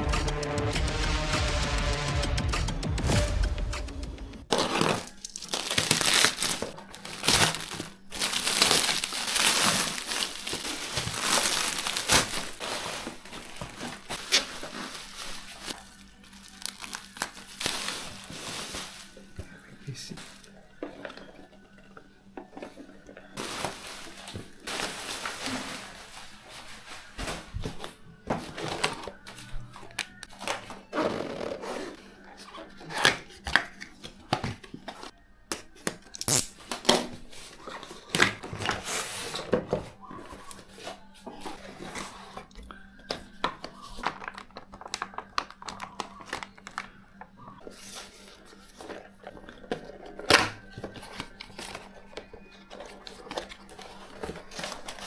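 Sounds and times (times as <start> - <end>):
plastic and cardboard rustling: 4.4 - 47.0, 47.6 - 55.0.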